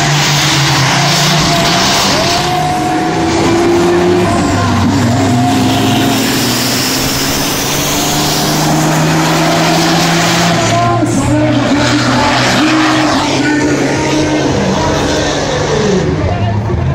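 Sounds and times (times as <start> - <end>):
diesel truck engines roaring: 0.0 - 16.9.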